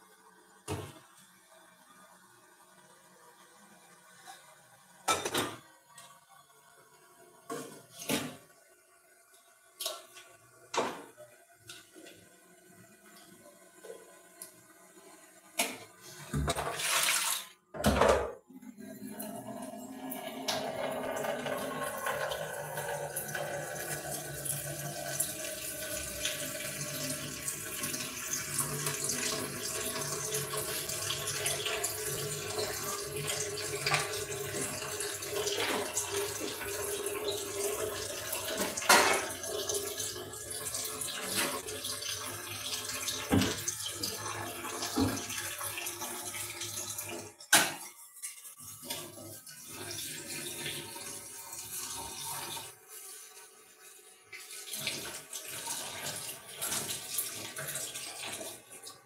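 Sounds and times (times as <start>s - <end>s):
running water in a sink: 0.0s - 17.6s, 18.6s - 59.0s.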